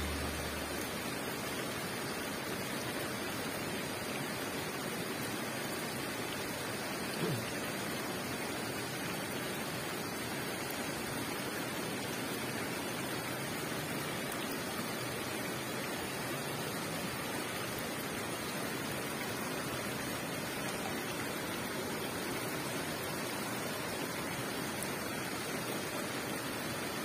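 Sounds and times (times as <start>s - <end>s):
river running: 0.0s - 27.0s
waterfall rushing: 0.0s - 27.0s.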